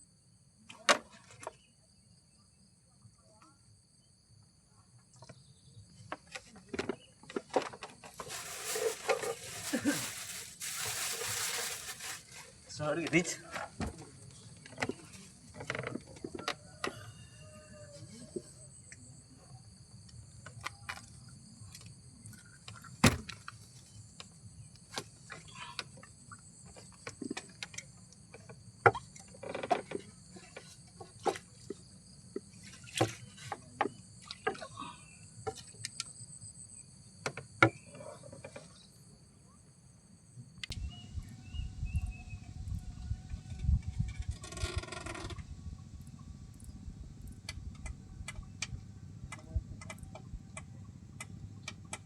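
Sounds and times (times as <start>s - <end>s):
high-pitched insect chorus: 1.5s - 47.4s.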